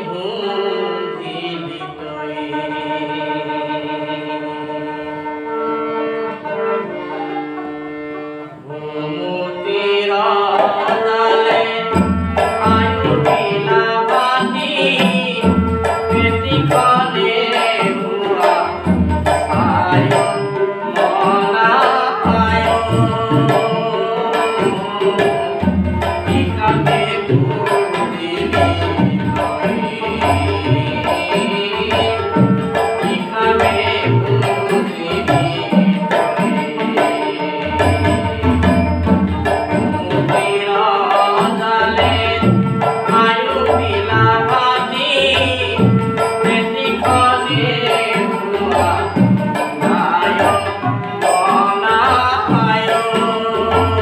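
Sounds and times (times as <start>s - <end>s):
man singing: 0.0s - 5.3s, 8.6s - 54.0s
harmonium: 0.0s - 54.0s
hand-played barrel drum: 10.5s - 54.0s.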